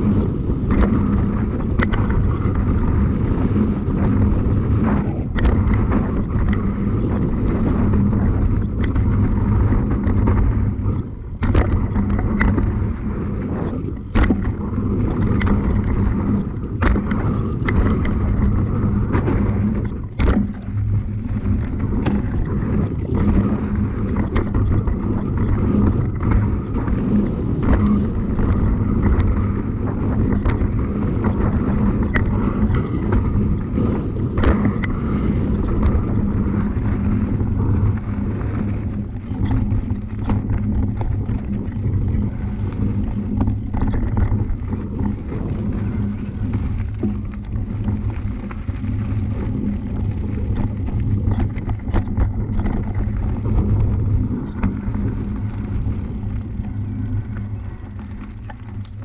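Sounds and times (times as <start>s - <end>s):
vehicle engine running: 0.0s - 59.0s
sharp clicks and knocks: 0.1s - 13.1s, 14.0s - 27.0s, 27.6s - 35.0s, 35.6s - 55.1s.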